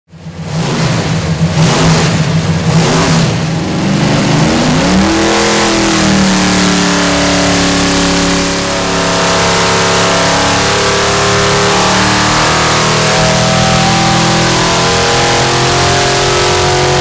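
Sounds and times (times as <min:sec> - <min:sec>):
loud engine running on dyno: 0:00.1 - 0:17.0.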